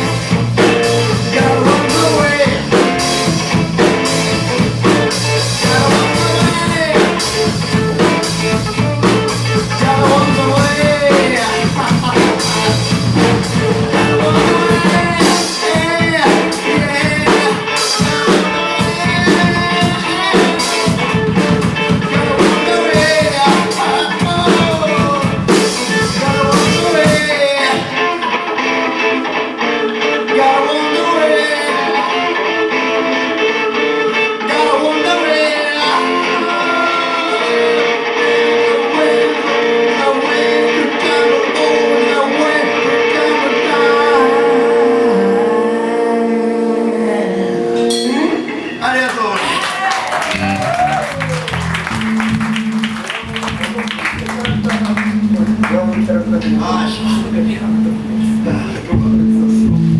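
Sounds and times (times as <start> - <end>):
electric guitar bending notes: 0.0 - 59.9
live band playing blues rock: 0.0 - 59.9.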